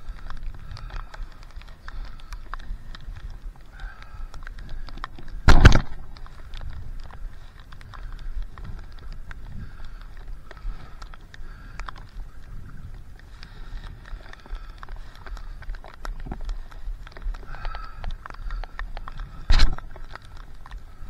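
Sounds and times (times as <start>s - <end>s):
water ticks and drips: 0.0s - 21.0s.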